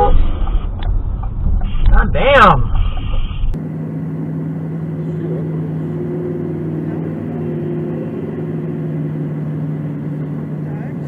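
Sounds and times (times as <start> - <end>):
low engine hum: 0.0 - 11.0
road noise: 0.0 - 11.0.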